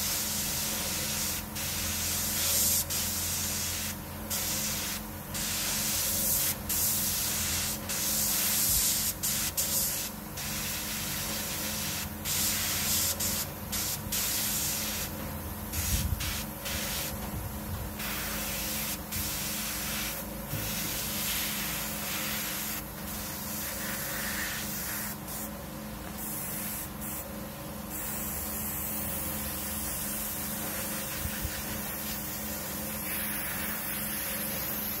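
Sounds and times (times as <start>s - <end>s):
airbrush spraying hiss: 0.0s - 15.1s, 15.7s - 17.2s, 18.0s - 27.3s, 27.9s - 35.0s
steady low hum: 0.0s - 35.0s.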